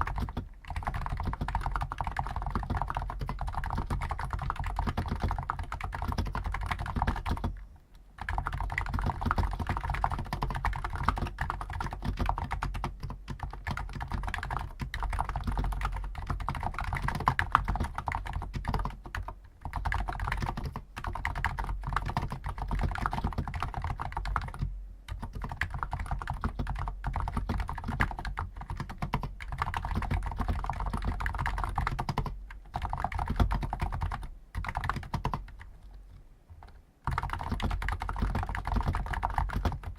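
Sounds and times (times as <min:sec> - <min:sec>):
fast keyboard typing: 0:00.0 - 0:07.6, 0:08.2 - 0:35.9, 0:36.6 - 0:39.9.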